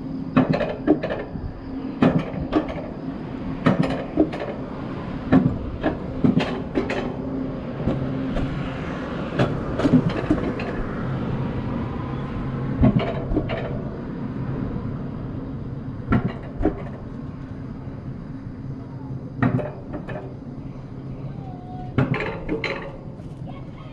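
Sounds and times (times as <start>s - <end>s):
coaster wheels rumbling on track: 0.0s - 23.9s
wheels clacking over rail joints: 0.3s - 23.9s.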